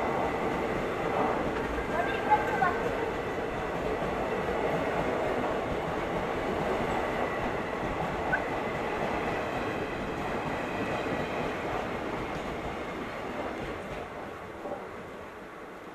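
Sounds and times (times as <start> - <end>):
train wheels rushing on rails: 0.0 - 15.9.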